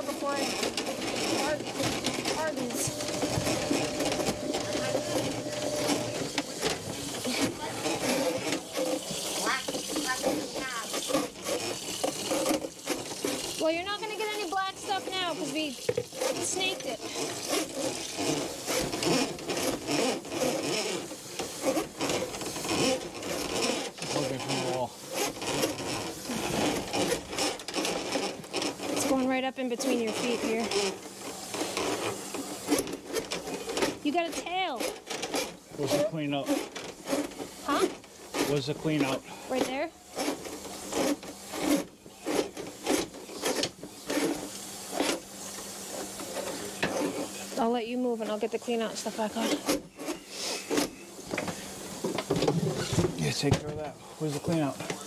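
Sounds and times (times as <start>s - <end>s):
mop scrubbing a floor: 0.0s - 53.5s
rhythmic rubbing strokes: 0.0s - 55.0s.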